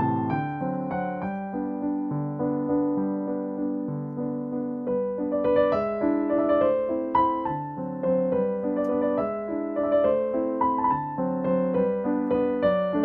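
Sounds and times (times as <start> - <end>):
gentle piano tune: 0.0 - 13.0.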